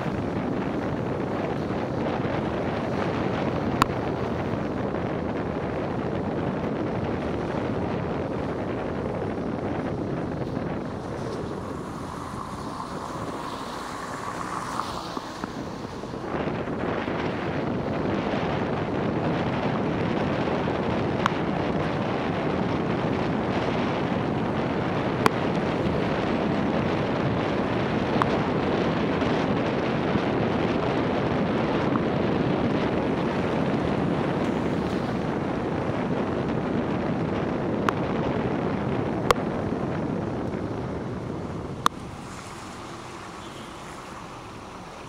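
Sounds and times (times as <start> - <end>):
tyres on wet road: 0.0 - 45.0
wind buffeting microphone: 0.0 - 45.0.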